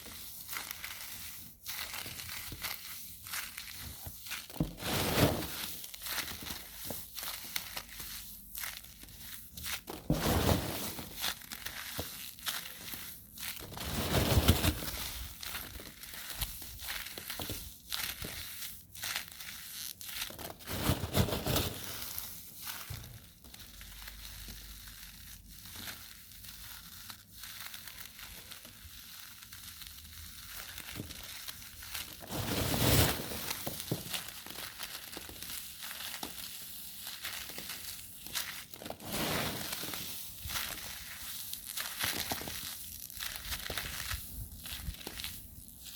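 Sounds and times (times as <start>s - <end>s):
crinkling and crushing: 0.0s - 45.9s.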